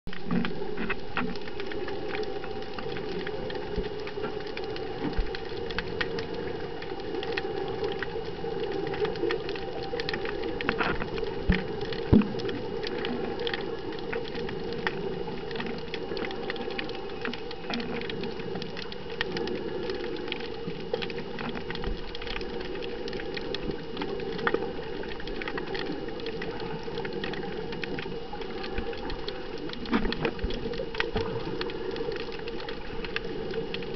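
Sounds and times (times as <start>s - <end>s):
muffled underwater noise: 0.1s - 33.9s
underwater crackling and clicking: 0.1s - 33.9s.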